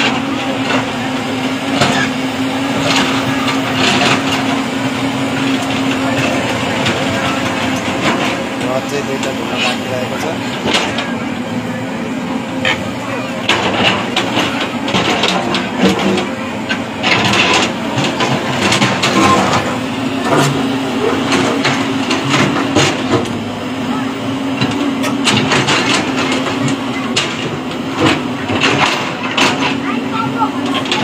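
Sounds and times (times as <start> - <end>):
diesel excavator engine running: 0.0 - 31.0.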